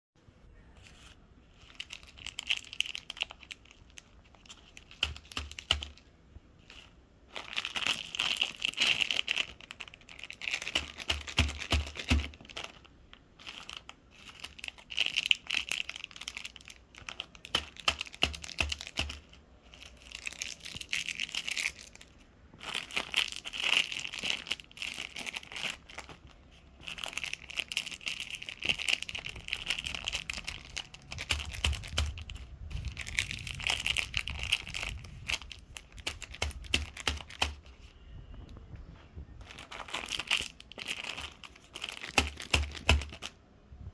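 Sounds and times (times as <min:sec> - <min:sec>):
candy wrappers crinkling: 0:00.8 - 0:38.1, 0:39.3 - 0:43.4.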